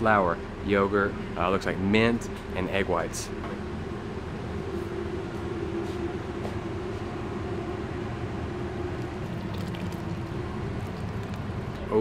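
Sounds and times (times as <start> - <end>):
kitchen equipment rumble and hum: 0.0 - 12.0.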